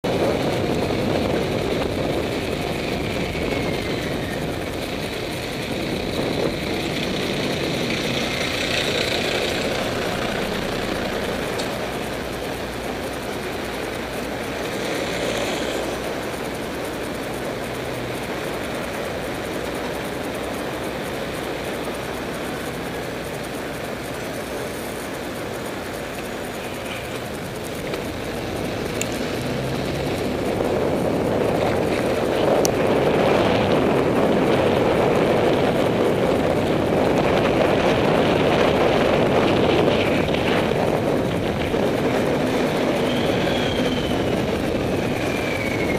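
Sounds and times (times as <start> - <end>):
bus engine running: 0.0 - 45.9
road traffic noise: 0.0 - 45.9
wind rushing over microphone: 0.0 - 45.9.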